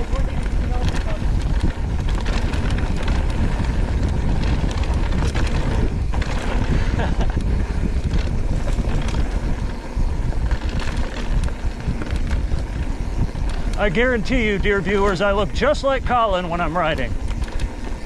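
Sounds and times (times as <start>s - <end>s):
bike clicks and rattles: 0.0s - 18.0s
low tyre rumble: 0.0s - 18.0s
wind buffeting microphone: 0.0s - 18.0s.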